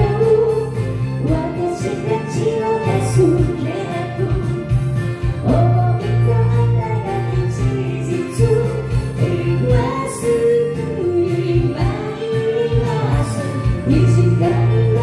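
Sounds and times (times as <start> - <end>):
pop backing track: 0.0 - 15.0.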